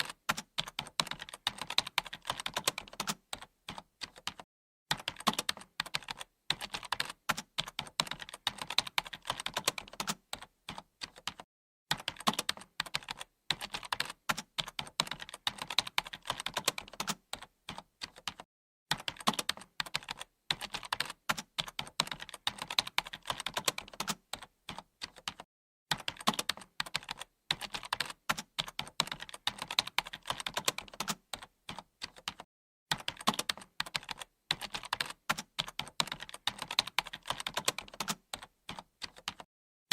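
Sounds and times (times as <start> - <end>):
keyboard typing clicks: 0.0 - 39.5.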